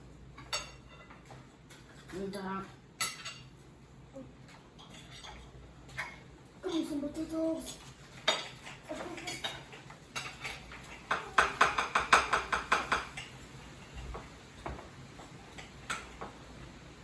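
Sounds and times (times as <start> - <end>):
utensils clinking on plates: 0.4 - 3.7, 4.4 - 16.4.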